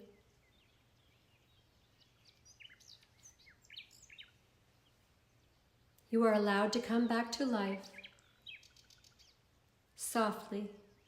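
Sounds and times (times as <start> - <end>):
faint bird chirps: 0.0 - 6.1, 6.8 - 9.7.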